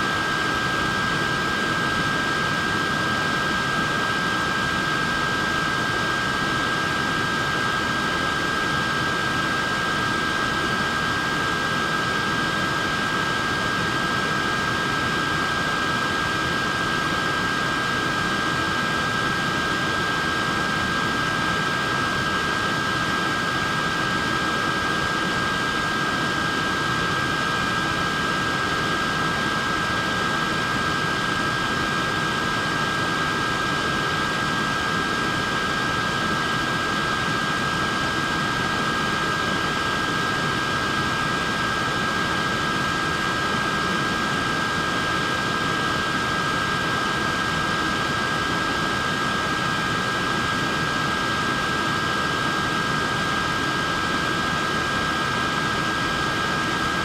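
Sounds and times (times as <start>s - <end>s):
neck fan whirring with whine: 0.0s - 57.0s.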